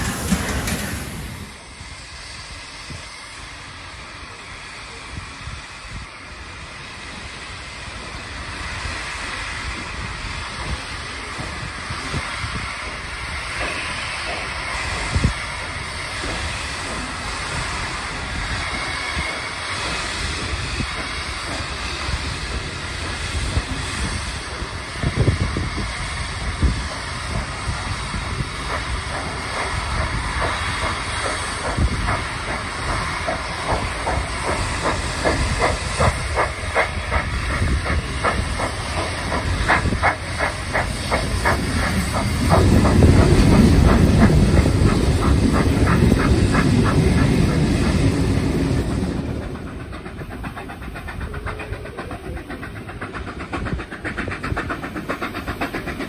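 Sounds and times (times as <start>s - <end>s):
steam hissing: 0.0s - 56.0s
train wheels rolling on rails: 0.0s - 56.0s.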